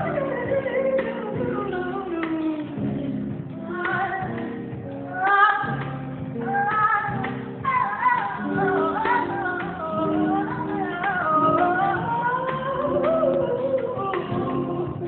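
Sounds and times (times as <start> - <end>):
live rock band playing: 0.0 - 15.0
woman singing: 0.0 - 15.0.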